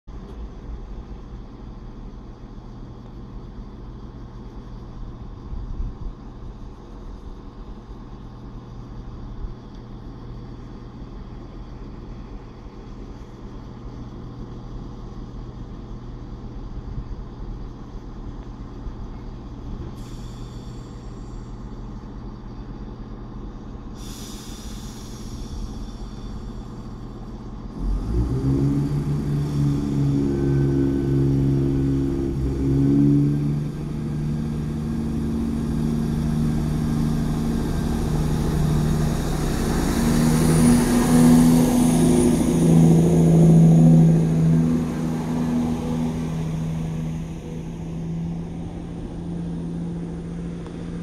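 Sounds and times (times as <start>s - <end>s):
diesel train engines idling: 0.1s - 51.0s
diesel train engines revving: 0.1s - 51.0s.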